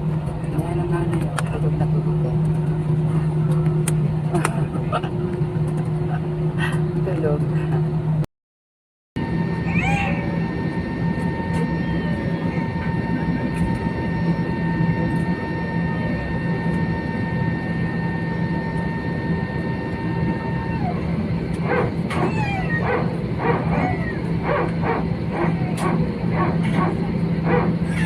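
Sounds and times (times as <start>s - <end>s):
airliner cabin drone: 0.0s - 8.3s, 9.2s - 28.0s.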